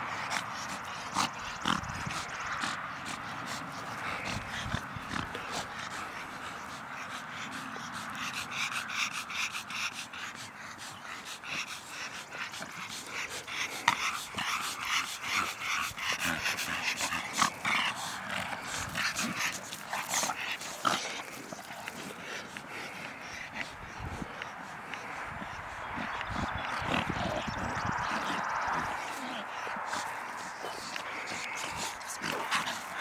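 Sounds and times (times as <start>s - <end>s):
dogs growling while playing: 0.0s - 33.0s.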